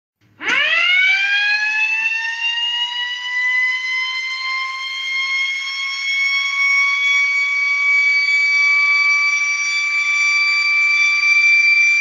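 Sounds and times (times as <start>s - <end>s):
motor-driven siren wailing: 0.4s - 12.0s.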